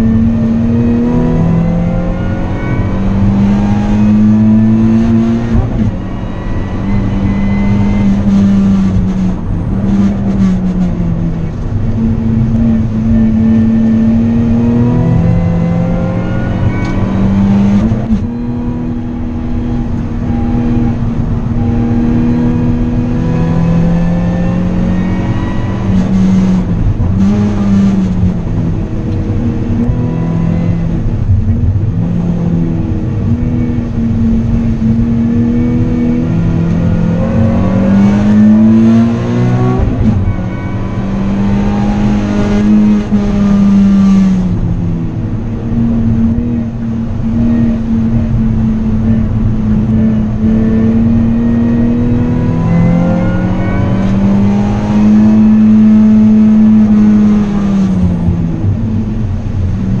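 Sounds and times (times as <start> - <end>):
car engine accelerating: 0.0 - 60.0.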